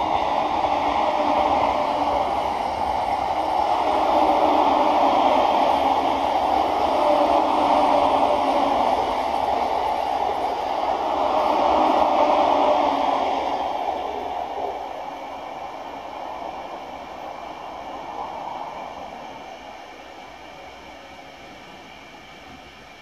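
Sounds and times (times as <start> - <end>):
train wheels rolling on rail: 0.0 - 23.0.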